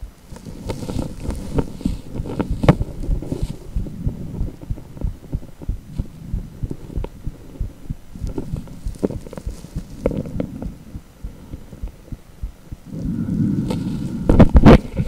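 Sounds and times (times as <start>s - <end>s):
ultrasound heartbeat pulses: 0.0s - 15.0s.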